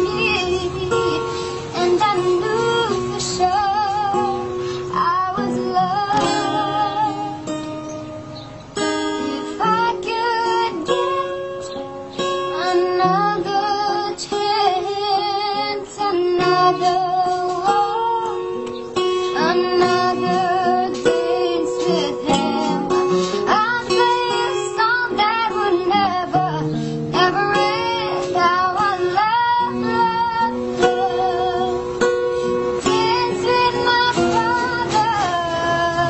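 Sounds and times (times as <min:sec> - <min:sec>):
child singing: 0:00.0 - 0:07.5, 0:09.1 - 0:11.4, 0:12.5 - 0:18.4, 0:19.4 - 0:31.9, 0:32.8 - 0:36.0
plucked strummed guitar: 0:00.0 - 0:36.0.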